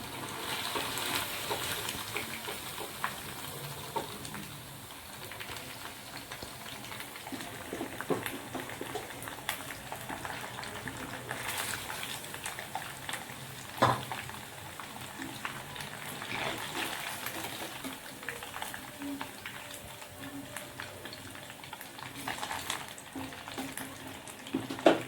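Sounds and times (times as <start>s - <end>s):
chicken deep-frying in hot oil: 0.0s - 25.0s.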